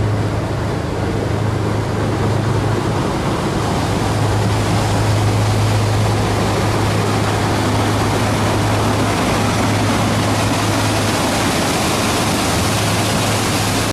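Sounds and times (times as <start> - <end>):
boat engine running: 0.0 - 13.9
loud even rushing noise: 0.0 - 13.9.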